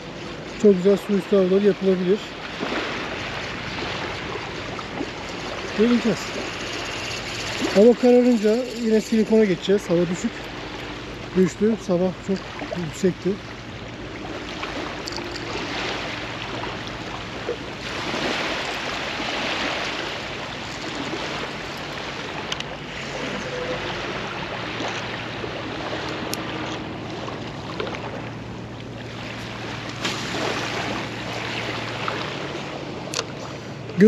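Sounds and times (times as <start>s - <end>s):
small waves lapping on beach: 0.0s - 34.0s.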